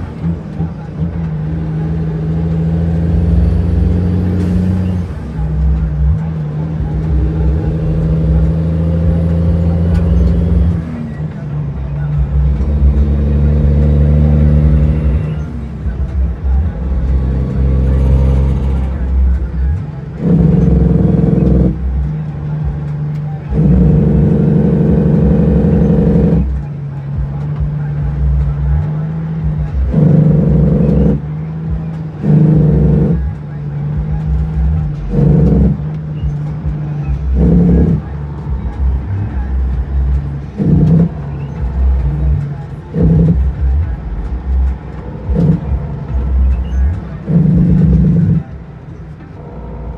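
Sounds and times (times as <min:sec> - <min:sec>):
truck diesel engine: 0:00.0 - 0:49.9.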